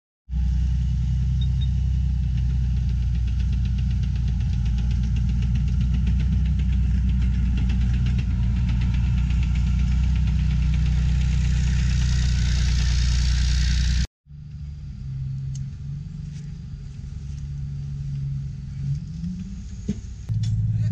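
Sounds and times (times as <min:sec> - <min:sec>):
tank diesel engine running: 0:00.3 - 0:20.9.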